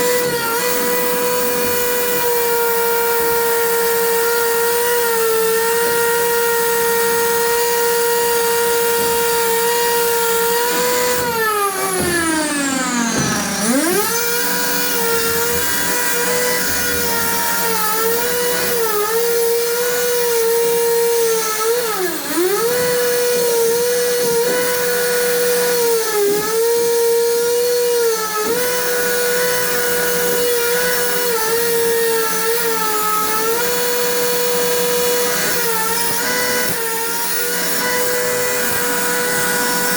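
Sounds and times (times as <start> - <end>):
electric power tool whining: 0.0 - 39.9.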